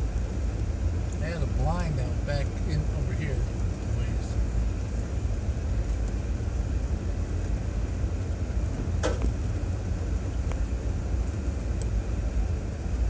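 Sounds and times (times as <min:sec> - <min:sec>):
vehicle rumbling on dirt trail: 0:00.0 - 0:13.0.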